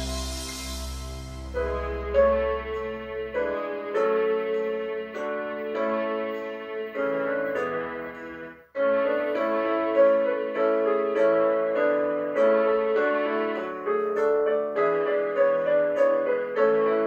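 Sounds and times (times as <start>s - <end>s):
piano-like keyboard chords: 0.0s - 17.0s.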